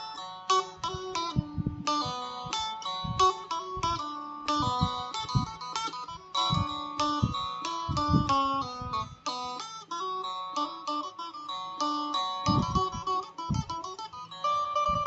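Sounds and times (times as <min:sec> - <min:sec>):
plucked lute melody over drone: 0:00.0 - 0:15.0.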